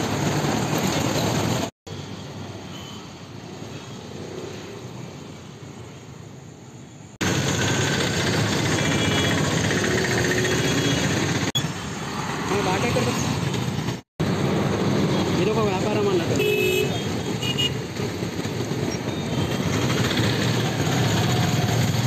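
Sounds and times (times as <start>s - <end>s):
traffic rumble on bridge: 0.0s - 22.0s.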